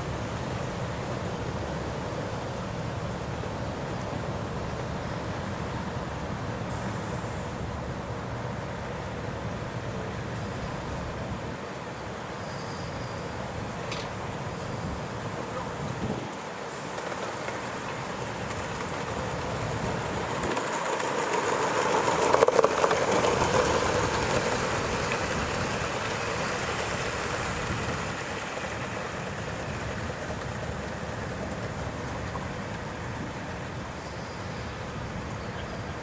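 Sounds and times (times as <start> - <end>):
model train wheels rumbling on rails: 0.0 - 36.0.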